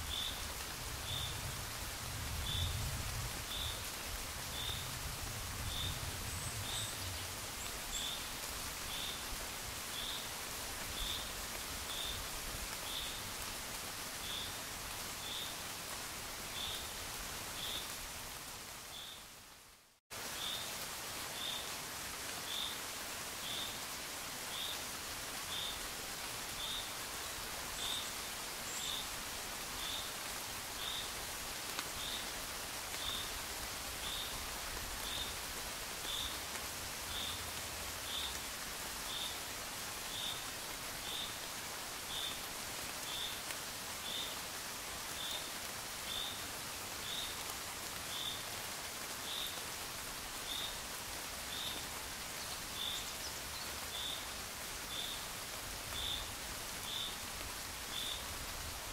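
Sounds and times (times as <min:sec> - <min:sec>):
gentle rain: 0:00.0 - 0:58.9.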